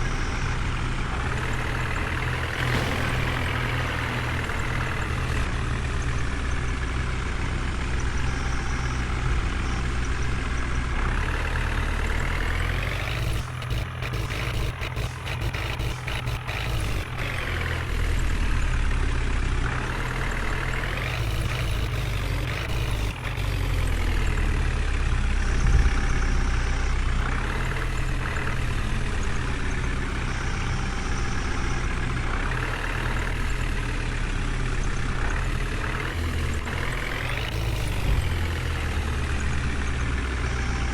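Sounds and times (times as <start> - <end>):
heavy diesel engines revving: 0.0 - 40.9.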